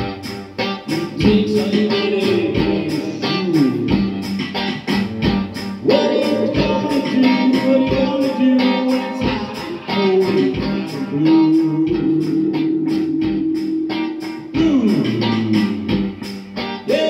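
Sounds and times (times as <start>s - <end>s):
reggae electric guitar over beat: 0.0s - 17.0s.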